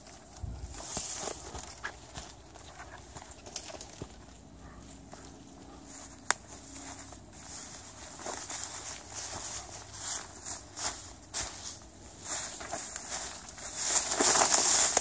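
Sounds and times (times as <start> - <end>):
footsteps through dry grass: 0.0 - 15.0.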